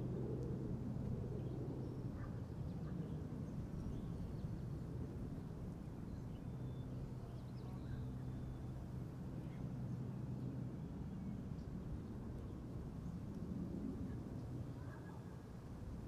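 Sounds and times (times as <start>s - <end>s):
low wind rumble: 0.0s - 16.0s.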